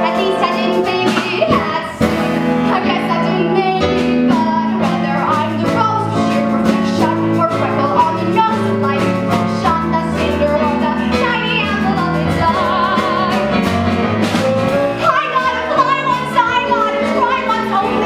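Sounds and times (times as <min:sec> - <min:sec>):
instrumental accompaniment: 0:00.0 - 0:18.0.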